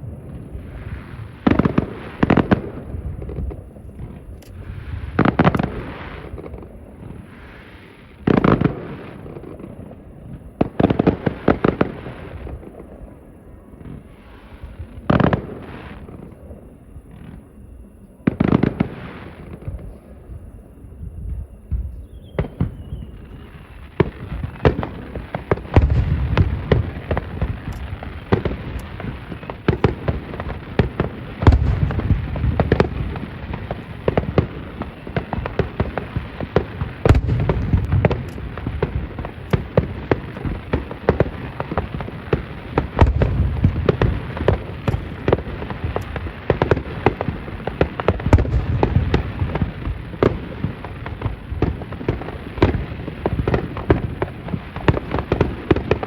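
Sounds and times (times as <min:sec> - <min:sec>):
heavy firework booms: 0:00.0 - 0:13.1, 0:18.3 - 0:56.0
fireworks crackling bangs: 0:00.0 - 0:56.0.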